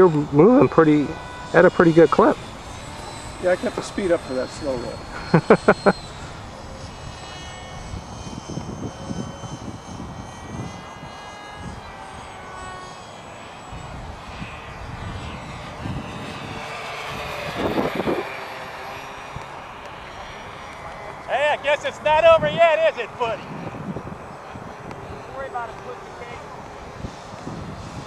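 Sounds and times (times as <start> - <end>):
wind buffeting microphone: 0.0 - 12.9, 13.6 - 28.0
model plane motors whining: 0.0 - 28.0.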